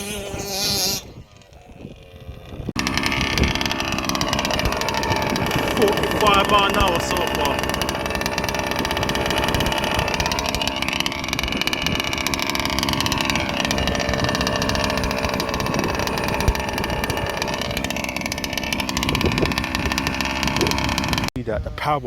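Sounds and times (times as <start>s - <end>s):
small two-stroke engine revving: 0.0s - 21.4s.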